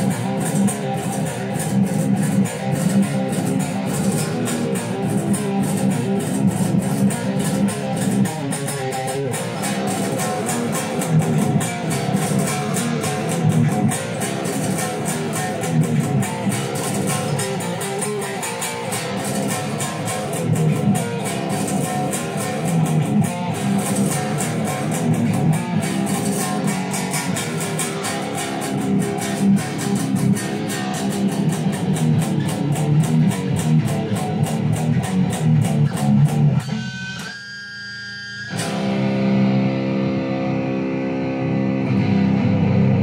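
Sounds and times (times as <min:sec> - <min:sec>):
distorted electric guitar riff: 0:00.0 - 0:43.0.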